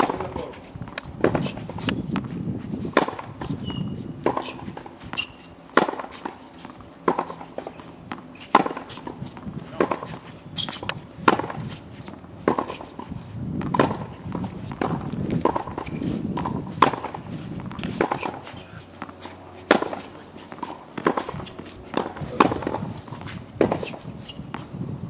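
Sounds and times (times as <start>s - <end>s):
tennis ball struck with racket: 0.0s - 24.7s.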